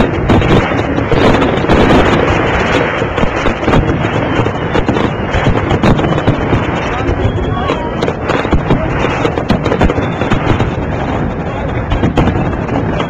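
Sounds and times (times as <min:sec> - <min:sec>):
fireworks bursting and crackling: 0:00.0 - 0:13.0
wind buffeting microphone: 0:00.0 - 0:13.0.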